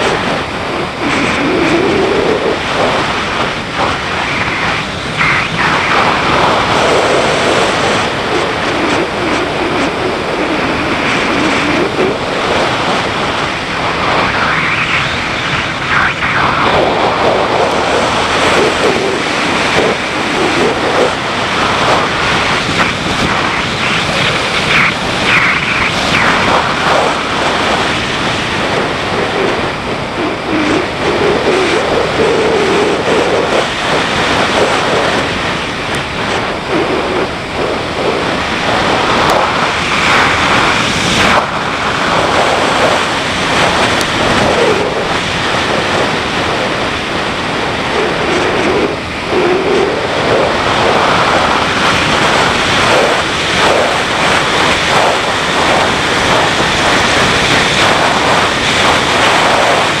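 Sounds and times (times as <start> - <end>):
wind rushing over microphone: 0.0 - 60.0.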